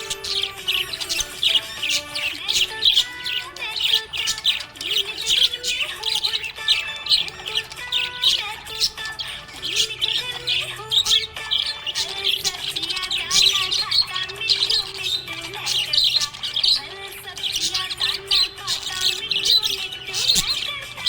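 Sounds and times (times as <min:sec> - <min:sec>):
budgerigar chirping and chattering: 0:00.0 - 0:21.0.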